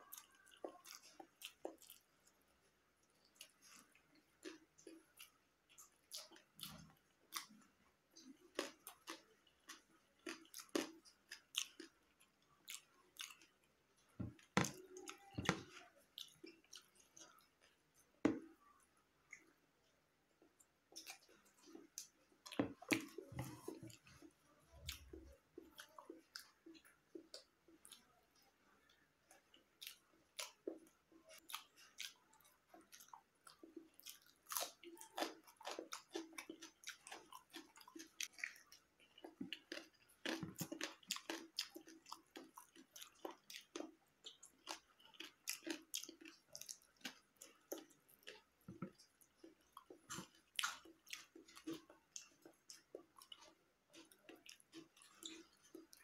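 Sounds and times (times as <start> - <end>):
close-up chewing with wet smacks: 0.0 - 2.4, 3.0 - 13.6, 20.4 - 56.0.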